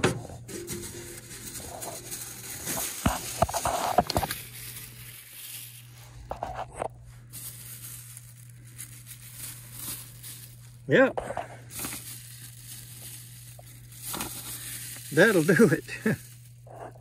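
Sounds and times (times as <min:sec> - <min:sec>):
steady low hum: 0:00.0 - 0:17.0
plastic bag crinkling and tearing: 0:00.4 - 0:17.0.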